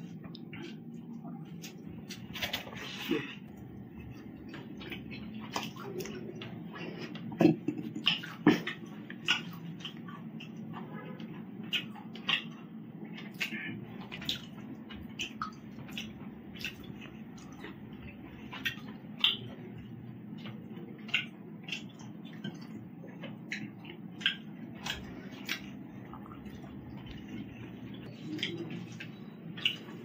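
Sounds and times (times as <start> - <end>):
fingers squelching in food: 0.0 - 30.0
person chewing and smacking: 0.0 - 30.0
steady low hum: 0.0 - 30.0.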